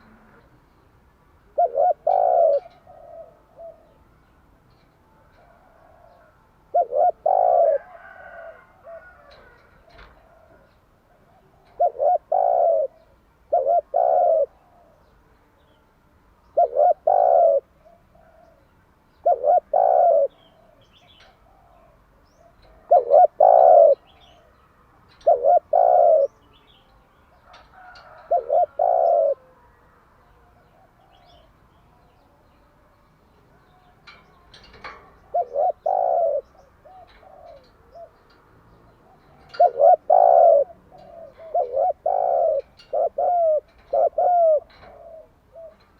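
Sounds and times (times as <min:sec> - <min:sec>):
dove cooing: 0:01.4 - 0:04.1, 0:05.2 - 0:15.1, 0:16.5 - 0:32.8, 0:33.5 - 0:45.9.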